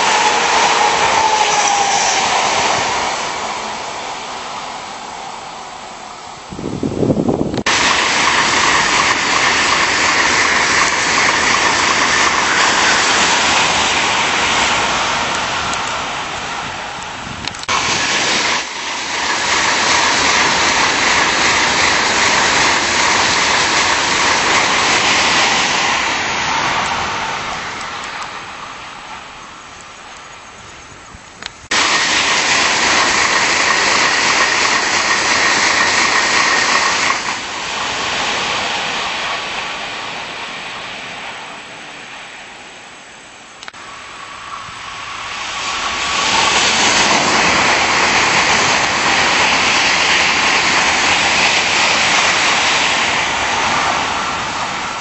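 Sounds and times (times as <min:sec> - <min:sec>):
train rushing past with whine: 0:00.0 - 0:55.0.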